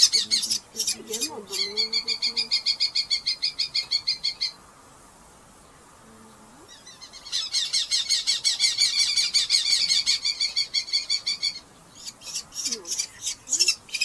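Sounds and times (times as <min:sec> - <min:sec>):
falcons calling shrilly: 0:00.0 - 0:04.6, 0:06.7 - 0:14.0.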